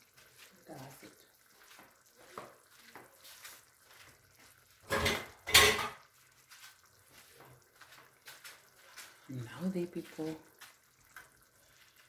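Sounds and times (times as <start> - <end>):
stew simmering with crackling: 0.0 - 12.0.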